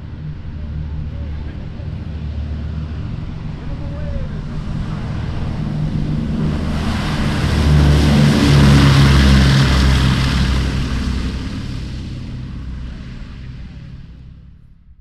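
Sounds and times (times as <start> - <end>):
propeller plane engines roaring past: 0.0 - 15.0.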